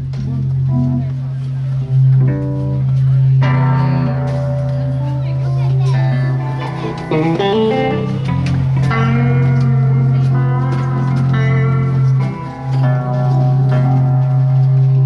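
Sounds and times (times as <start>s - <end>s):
band playing guitar music: 1.8s - 15.0s.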